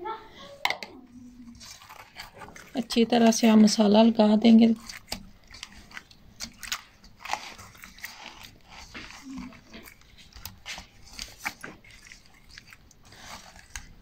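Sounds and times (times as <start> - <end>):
hand rubbing paste into fish: 1.2 - 14.0.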